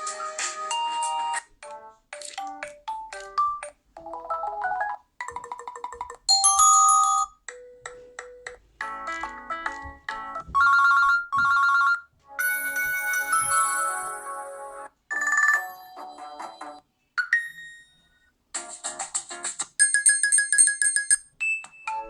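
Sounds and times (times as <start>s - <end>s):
phone ringtone melodies: 0.0s - 18.3s, 19.8s - 22.0s.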